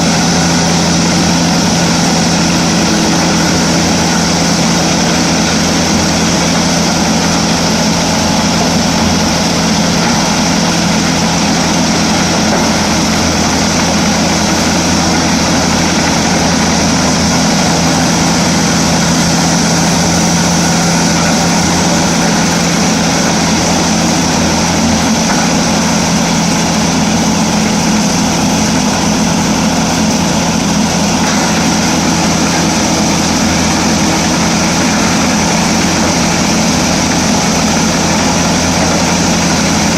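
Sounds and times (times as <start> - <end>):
wood chipper diesel engine drone: 0.0 - 39.9.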